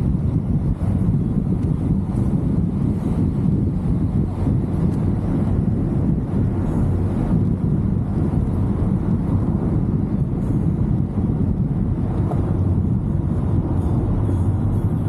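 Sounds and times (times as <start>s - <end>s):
car engine droning: 0.0s - 15.0s
road rumble: 0.0s - 15.0s
wind noise on microphone: 0.0s - 15.0s.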